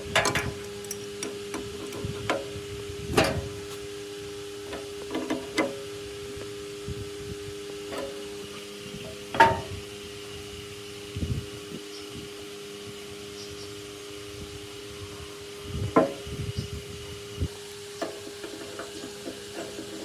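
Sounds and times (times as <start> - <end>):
steady electric hum: 0.0 - 20.0.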